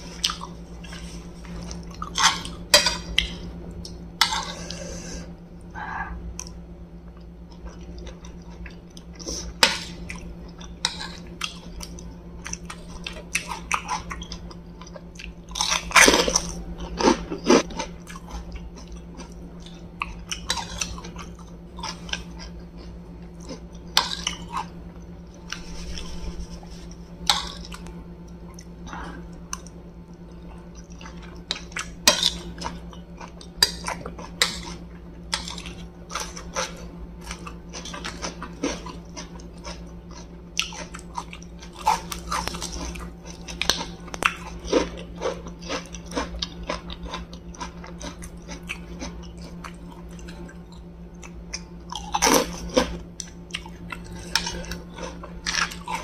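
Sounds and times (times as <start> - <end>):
person crunching crisp food: 0.0 - 5.3, 7.2 - 56.0
steady low hum: 0.0 - 56.0.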